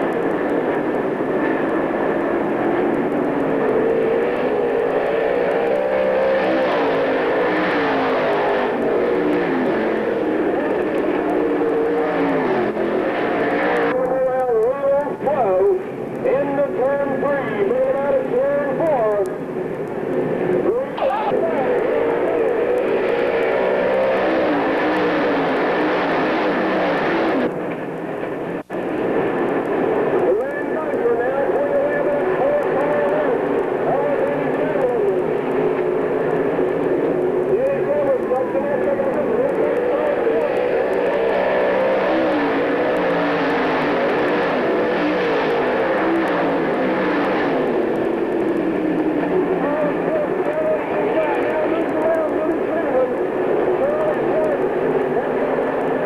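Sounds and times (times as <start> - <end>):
race car engines at speed: 0.0 - 56.0.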